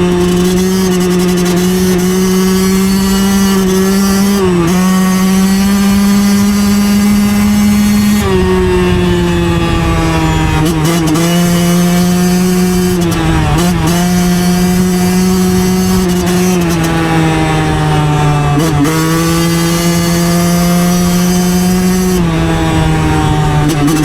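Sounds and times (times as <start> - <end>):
dirt bike engine running hard: 0.0 - 24.0.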